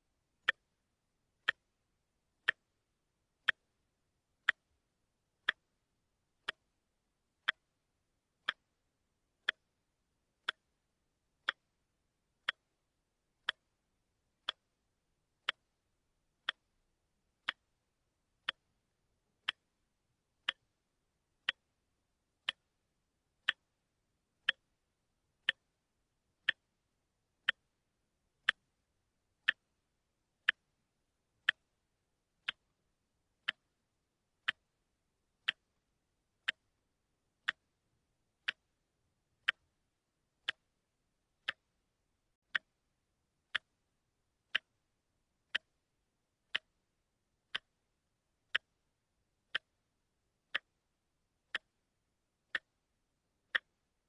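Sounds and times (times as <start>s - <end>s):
watch ticking: 0.3s - 40.8s, 41.4s - 54.0s.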